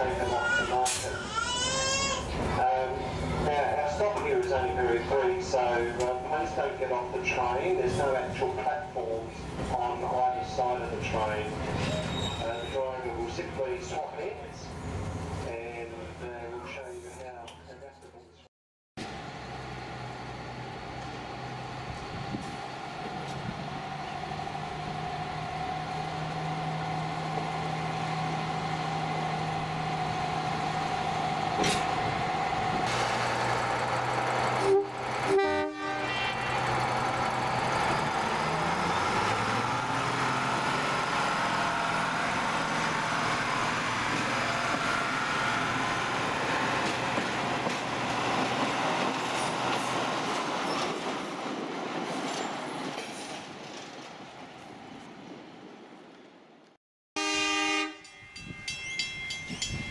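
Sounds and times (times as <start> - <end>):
rail noise: 0.0 - 17.9, 19.0 - 59.9
diesel railcar engine running: 2.2 - 17.2, 19.0 - 54.0.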